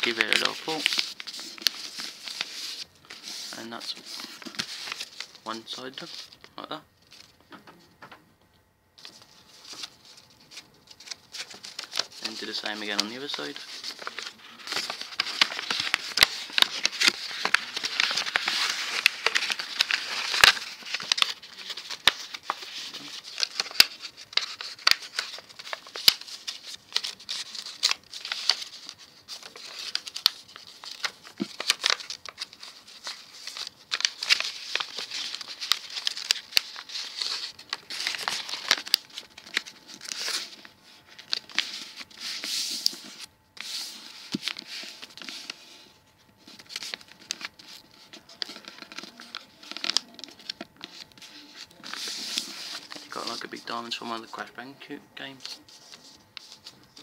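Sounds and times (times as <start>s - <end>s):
paper crinkling and rustling: 0.0s - 8.1s, 9.0s - 57.0s.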